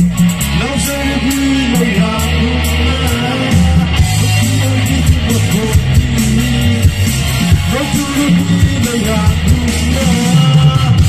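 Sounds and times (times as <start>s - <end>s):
live band through a pa: 0.0s - 11.0s.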